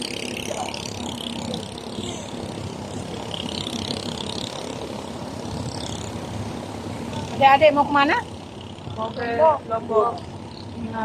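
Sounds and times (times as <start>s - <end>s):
ship engine rumbling drone: 0.0s - 11.0s.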